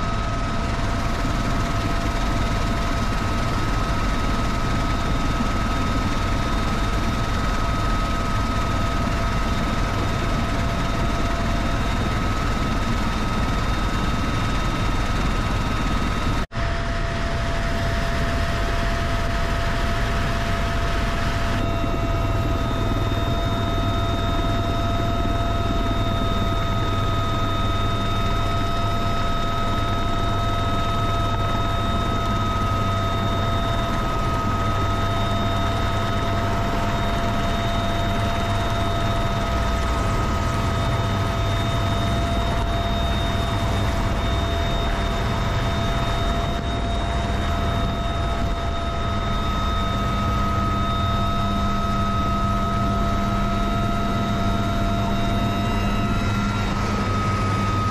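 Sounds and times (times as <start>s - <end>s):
helicopter engines and rotors: 0.0s - 57.9s.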